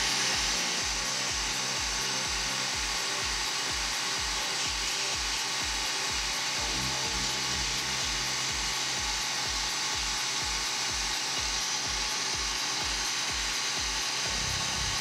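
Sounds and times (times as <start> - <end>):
background music with bass beat: 0.0 - 15.0
brake lathe cutting hiss: 0.0 - 15.0.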